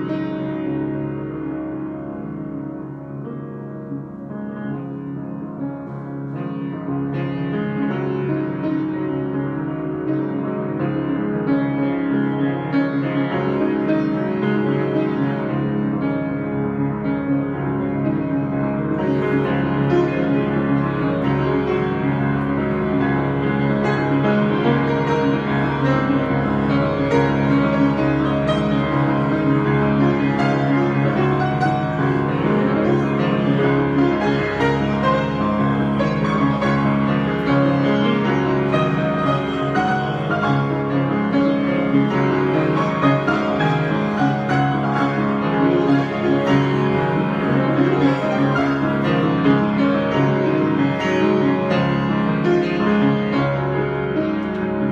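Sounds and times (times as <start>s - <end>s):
solo piano music: 0.0s - 54.9s.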